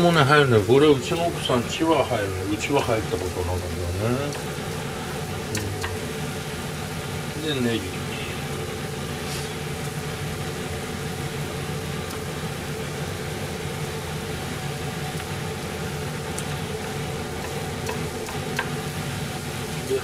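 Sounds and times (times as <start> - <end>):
kitchen fan humming: 0.0 - 20.0.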